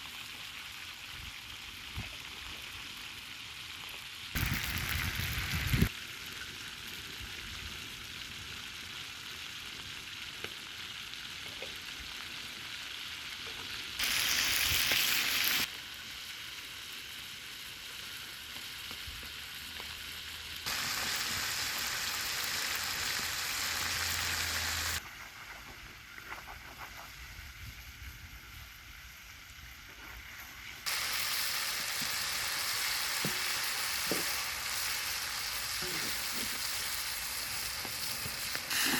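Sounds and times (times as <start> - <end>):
food sizzling in hot oil: 0.0 - 25.2, 26.0 - 38.9.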